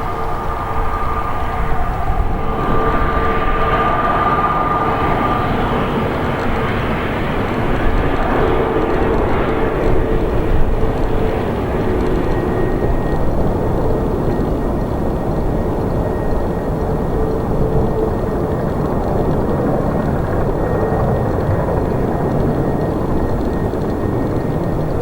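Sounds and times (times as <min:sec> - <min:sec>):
jet engine high whine: 0:00.0 - 0:25.0
jet engine low hum: 0:00.0 - 0:25.0.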